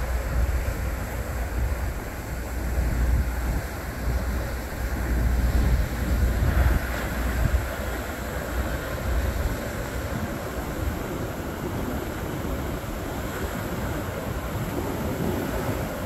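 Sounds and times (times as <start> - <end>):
ocean surf breaking: 0.0 - 16.0
wind rumble on microphone: 0.0 - 16.0.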